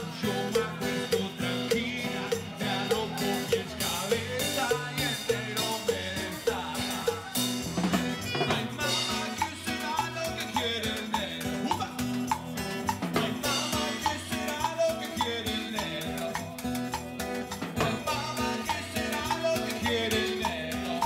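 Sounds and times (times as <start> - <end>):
hand percussion beat: 0.0 - 21.0
strummed acoustic guitar: 0.0 - 21.0.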